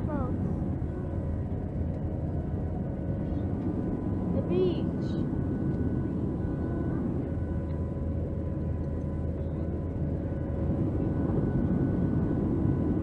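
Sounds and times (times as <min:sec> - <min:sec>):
faint steady whine: 0:00.0 - 0:13.0
jet engine drone: 0:00.0 - 0:13.0.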